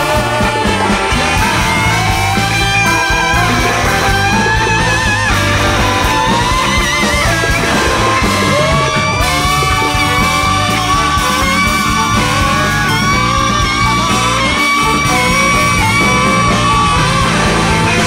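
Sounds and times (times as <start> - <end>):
free jazz big band playing: 0.0 - 18.0.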